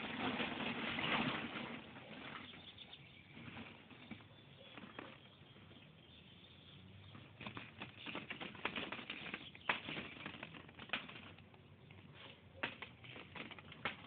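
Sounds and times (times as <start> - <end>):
plastic balls clattering: 0.0 - 5.7, 7.0 - 14.0.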